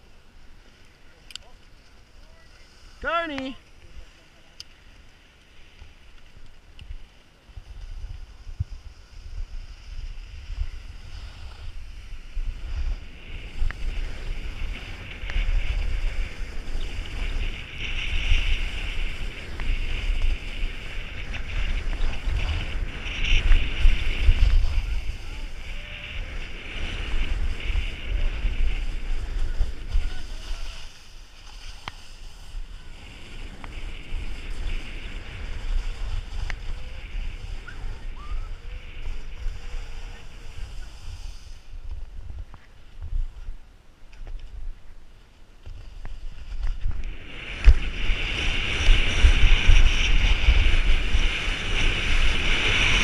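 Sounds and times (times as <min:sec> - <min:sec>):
skis scraping over snow: 0:00.0 - 0:53.0
wind buffeting microphone: 0:05.0 - 0:53.0.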